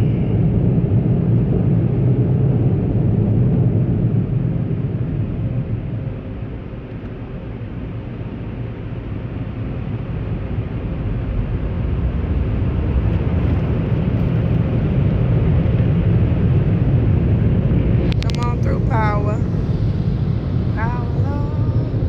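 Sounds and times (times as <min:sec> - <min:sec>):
car wash machinery rumble: 0:00.0 - 0:22.0.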